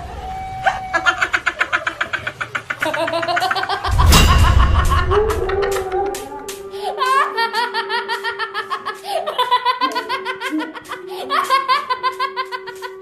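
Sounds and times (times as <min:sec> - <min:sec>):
high-pitched cackling laughter: 0:00.6 - 0:13.0.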